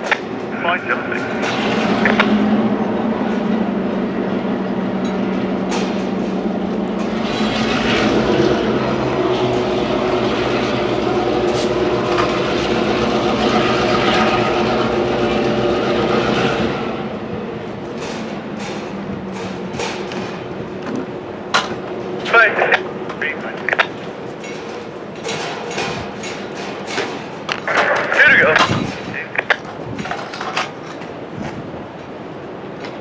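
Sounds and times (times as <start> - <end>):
diesel locomotive engine: 0.0 - 33.0
wind buffeting microphone: 0.0 - 33.0.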